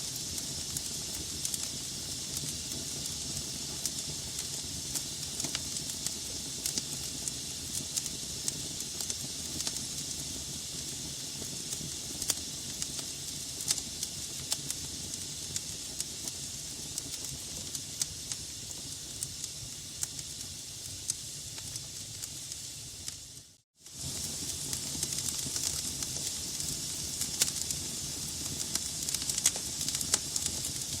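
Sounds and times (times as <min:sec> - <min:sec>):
fire crackling and popping: 0:00.0 - 0:31.0.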